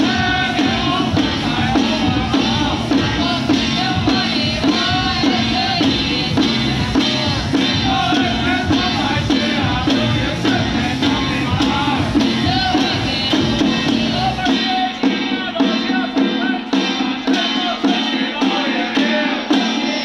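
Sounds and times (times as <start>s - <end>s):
handheld drum strokes: 0.0s - 20.0s
person chanting melodically: 0.0s - 20.0s.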